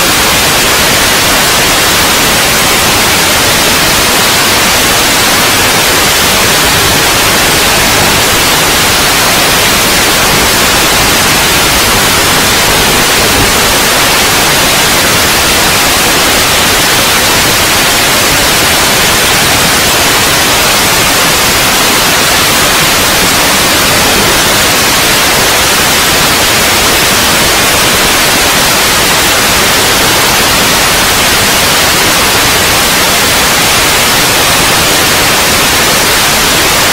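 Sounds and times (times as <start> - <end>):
loud static hiss: 0.0 - 36.9.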